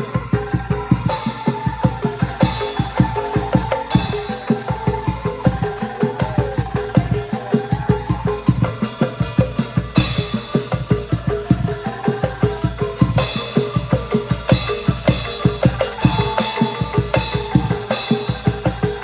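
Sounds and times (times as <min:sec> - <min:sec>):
bamboo rattles playing melody: 0:00.0 - 0:19.0
quick steady drum beat: 0:00.0 - 0:19.0.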